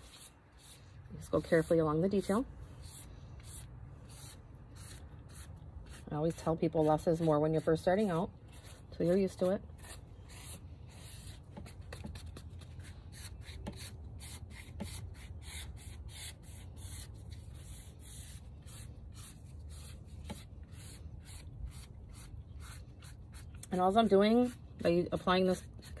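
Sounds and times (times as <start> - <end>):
paintbrush scratching concrete: 0.0 - 26.0.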